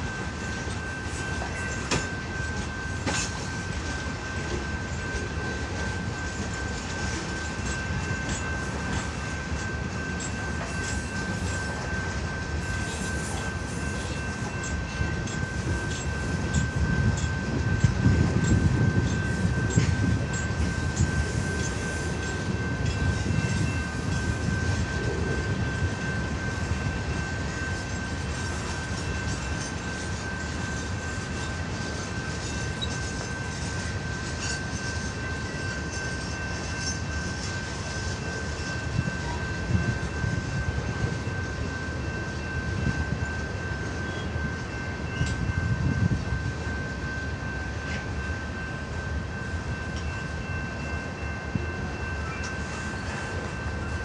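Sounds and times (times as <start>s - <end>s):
steady high-pitched ring: 0.0s - 54.0s
train wheels rumbling on rails: 0.0s - 54.0s.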